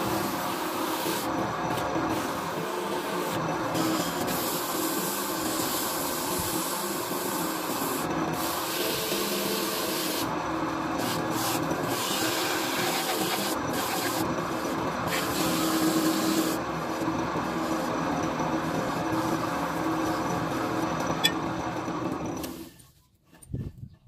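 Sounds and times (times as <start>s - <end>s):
lathe humming: 0.0s - 22.5s.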